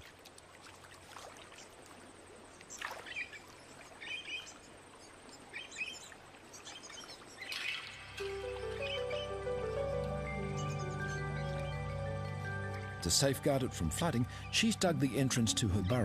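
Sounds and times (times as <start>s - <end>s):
river water hiss: 0.0s - 16.0s
small birds chirping: 2.5s - 16.0s.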